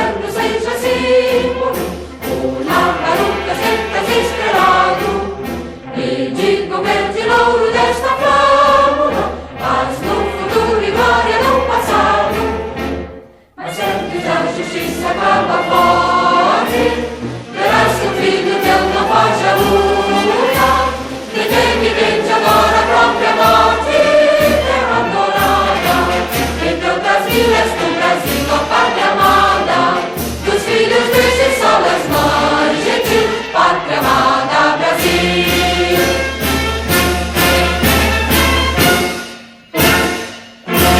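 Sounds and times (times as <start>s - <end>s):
choir singing with accompaniment: 0.0s - 40.9s.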